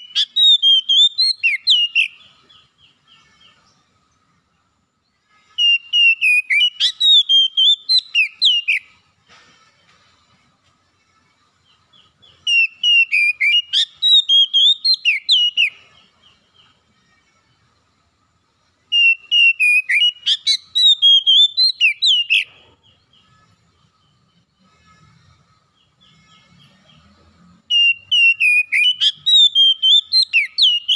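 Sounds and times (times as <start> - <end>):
bird singing whistled notes: 0.0 - 4.3, 5.1 - 9.1, 11.4 - 16.9, 18.9 - 30.9.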